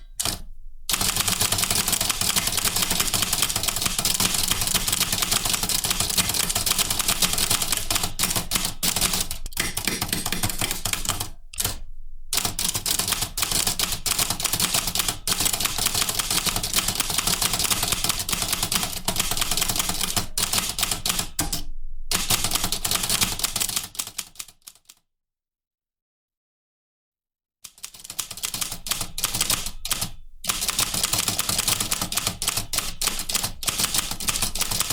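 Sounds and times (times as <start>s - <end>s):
typewriter typing: 0.0s - 11.8s, 12.4s - 21.6s, 22.2s - 24.9s, 27.7s - 34.9s.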